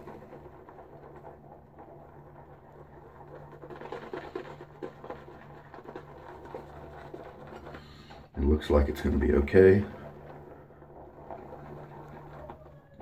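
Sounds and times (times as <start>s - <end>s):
shaving brush scratching in bowl: 0.0s - 13.0s.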